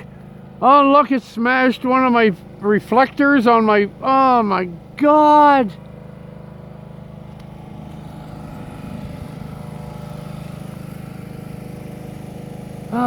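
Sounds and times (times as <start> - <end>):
generator humming: 0.0 - 13.0.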